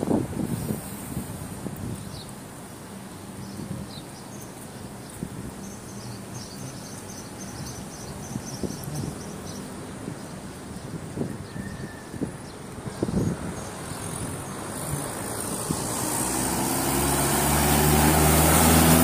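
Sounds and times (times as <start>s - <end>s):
distant traffic hum: 0.0s - 19.0s.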